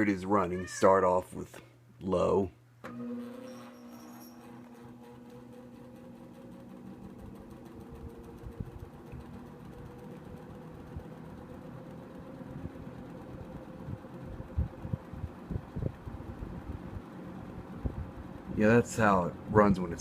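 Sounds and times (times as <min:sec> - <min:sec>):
box fan motor hum: 0:02.2 - 0:20.0.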